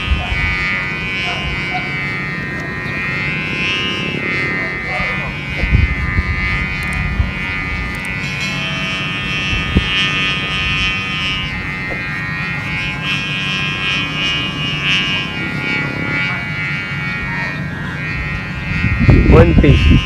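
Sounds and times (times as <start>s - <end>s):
kite hummer buzzing drone: 0.0s - 20.0s.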